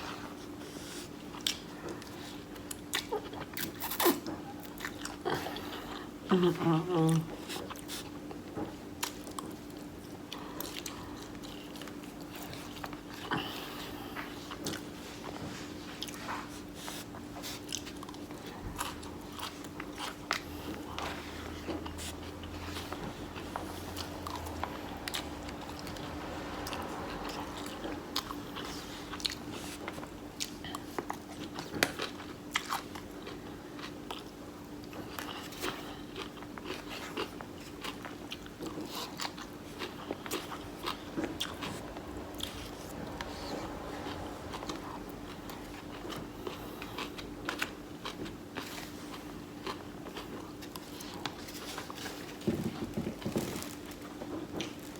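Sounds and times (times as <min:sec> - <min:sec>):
steady low hum: 0:00.0 - 0:54.9
person chewing and biting: 0:07.4 - 0:54.9.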